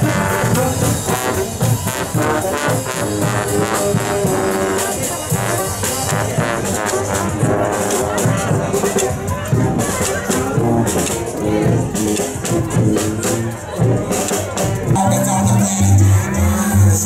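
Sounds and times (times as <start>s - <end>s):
brass band playing: 0.0s - 17.0s
trombones and trumpets: 0.0s - 17.0s.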